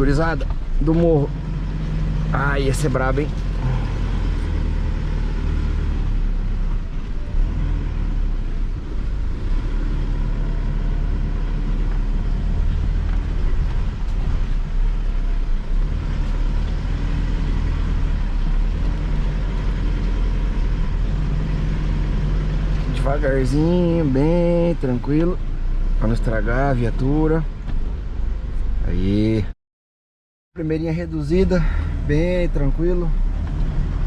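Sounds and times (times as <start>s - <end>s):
pickup engine pulling at low revs: 0.0s - 29.4s.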